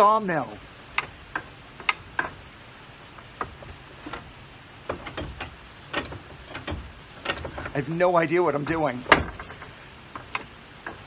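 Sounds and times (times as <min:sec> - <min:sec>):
light clicks and knocks: 0:00.8 - 0:11.0.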